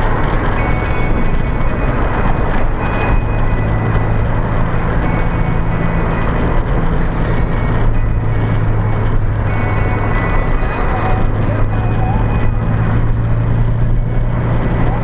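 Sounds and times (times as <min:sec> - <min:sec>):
car road noise drone: 0:00.0 - 0:15.0.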